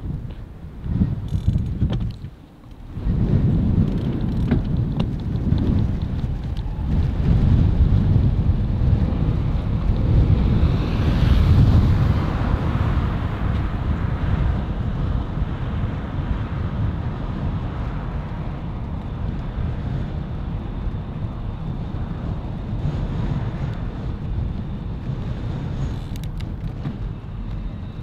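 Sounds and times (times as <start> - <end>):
bicycle tyres on tarmac: 0.0 - 28.0
wind rumbling on microphone: 0.0 - 28.0.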